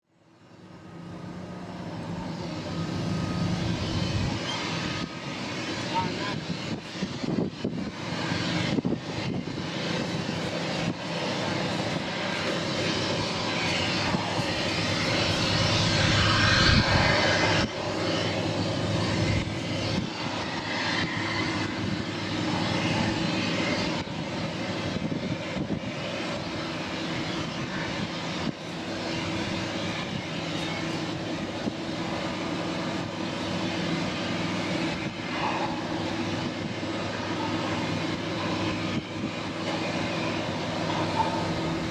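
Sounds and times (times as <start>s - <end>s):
boat engines droning: 0.3s - 41.9s.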